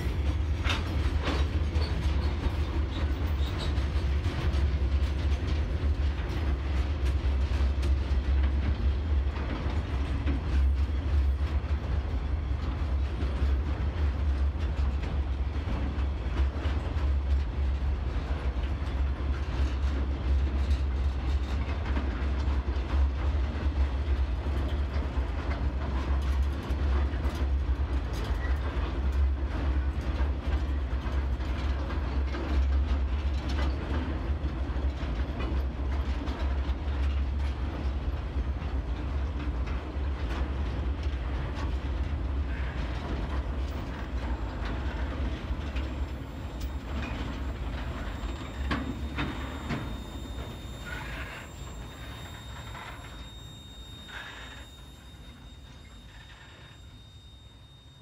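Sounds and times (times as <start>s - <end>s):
train rumbling over bridge: 0.0s - 58.0s
wheels clacking on rails: 0.0s - 58.0s.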